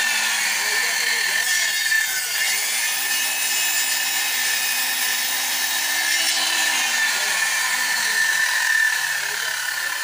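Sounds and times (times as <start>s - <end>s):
circular saw cutting wood: 0.0s - 10.0s.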